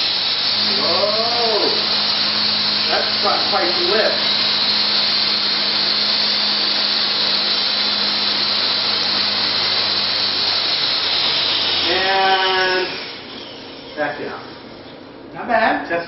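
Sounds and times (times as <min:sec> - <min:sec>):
rc helicopter rotor whirring: 0:00.0 - 0:15.3.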